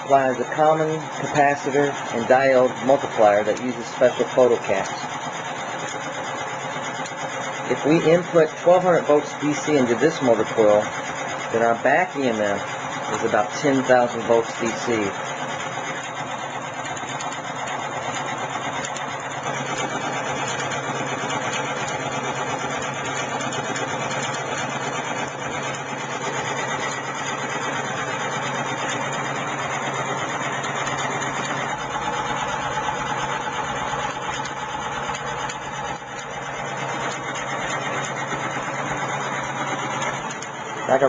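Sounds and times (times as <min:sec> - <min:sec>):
motor mechanical buzz: 0:00.0 - 0:41.0.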